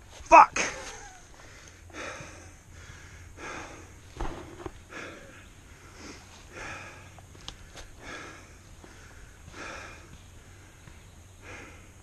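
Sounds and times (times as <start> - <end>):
person breathing hard: 1.3 - 12.0.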